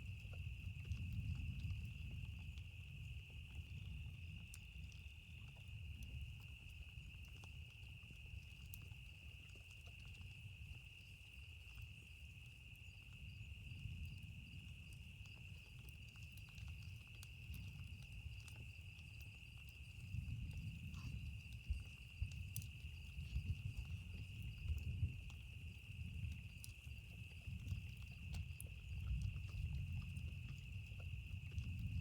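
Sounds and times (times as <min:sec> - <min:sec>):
campfire crackling: 0:00.0 - 0:32.0
night insects trilling: 0:00.0 - 0:32.0.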